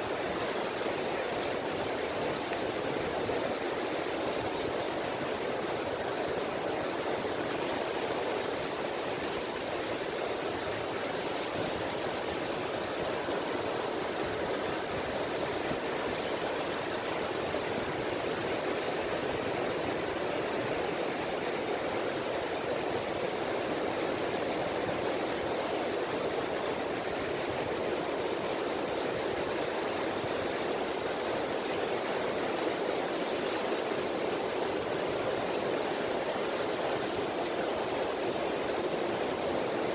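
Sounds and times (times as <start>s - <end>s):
small waves washing on beach: 0.0s - 39.9s.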